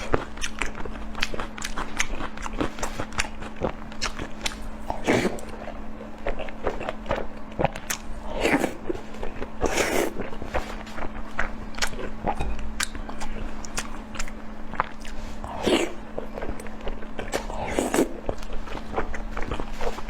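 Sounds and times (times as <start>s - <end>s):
person chewing crunchy food: 0.0s - 20.0s
steady low hum: 0.0s - 20.0s.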